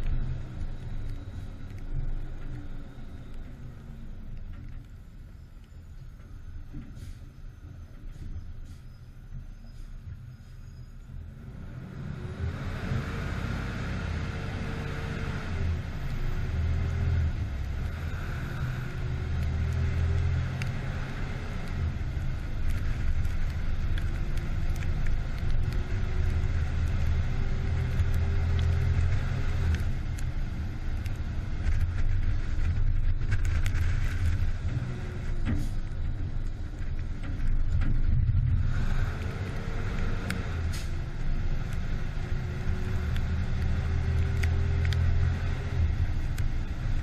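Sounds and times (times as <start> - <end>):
fire truck diesel engine rumbling: 0.0 - 47.0.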